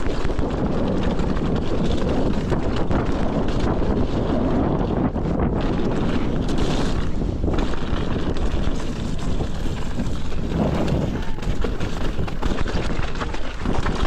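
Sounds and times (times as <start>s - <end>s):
bike rattling and knocking: 0.0s - 14.0s
bike tyre noise: 0.0s - 14.0s
wind on microphone: 0.0s - 14.0s.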